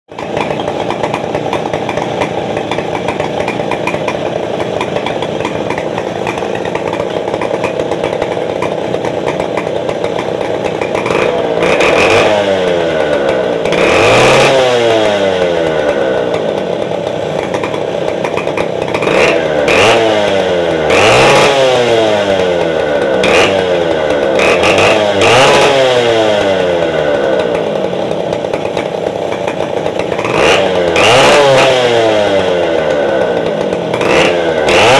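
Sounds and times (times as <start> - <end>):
chainsaw idling and revving: 0.1 - 34.9.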